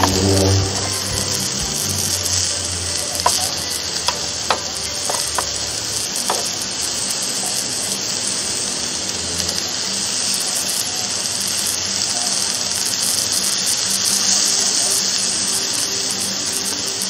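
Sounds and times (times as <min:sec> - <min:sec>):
meat and vegetables sizzling on grill: 0:00.0 - 0:17.0.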